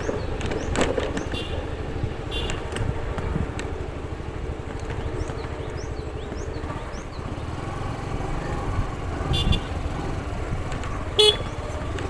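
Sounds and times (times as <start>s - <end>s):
motorcycle engine rumbling: 0.0s - 12.0s
wind rumble: 0.0s - 12.0s.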